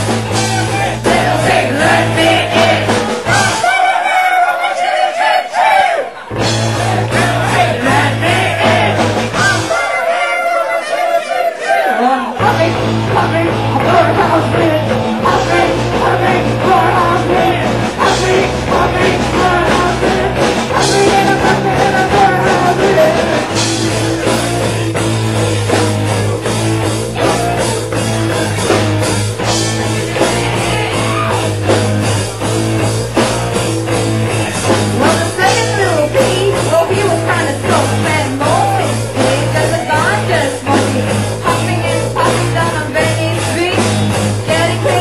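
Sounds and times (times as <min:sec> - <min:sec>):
rock music: 0:00.0 - 0:05.0, 0:06.1 - 0:45.0.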